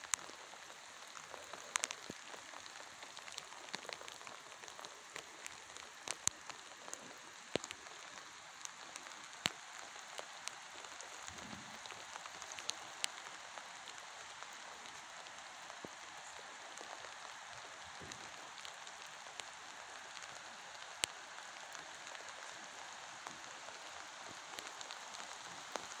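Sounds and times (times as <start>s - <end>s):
raindrops ticking close by: 0.0s - 26.0s
steady rain hiss: 0.0s - 26.0s.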